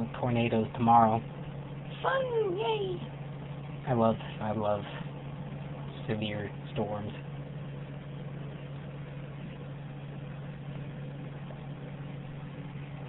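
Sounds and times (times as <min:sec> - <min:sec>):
appliance motor humming: 0:00.0 - 0:13.0.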